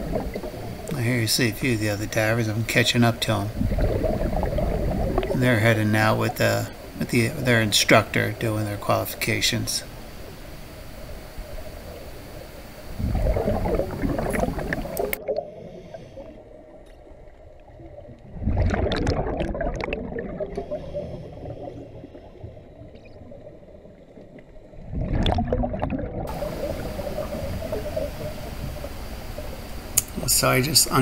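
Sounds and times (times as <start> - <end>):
underwater bubbles gurgling: 0.0 - 31.0.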